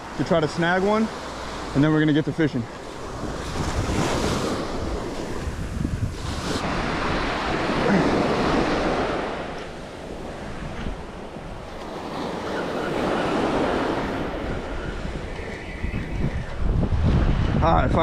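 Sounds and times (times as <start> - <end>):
ocean surf breaking on beach: 0.0 - 18.0
wind buffeting microphone: 2.8 - 18.0.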